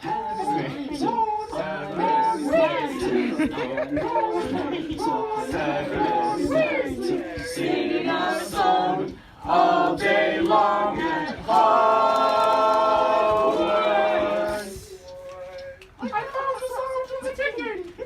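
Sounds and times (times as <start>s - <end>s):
group singing a cappella: 0.0s - 15.1s.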